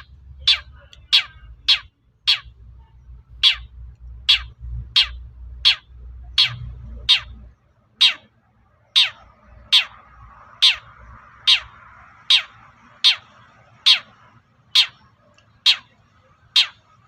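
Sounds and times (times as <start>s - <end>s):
bird giving harsh call: 0.0s - 2.6s, 3.4s - 7.4s, 8.0s - 8.3s, 8.9s - 17.0s.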